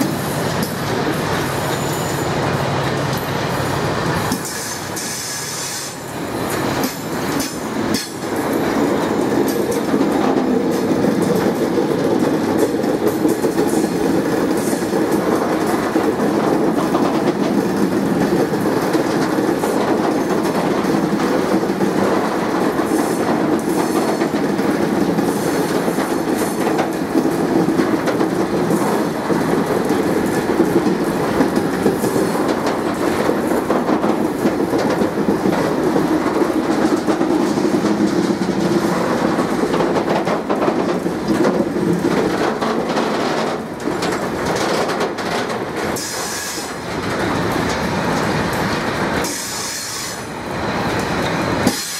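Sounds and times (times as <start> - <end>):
train wagons rumbling past: 0.0 - 51.9.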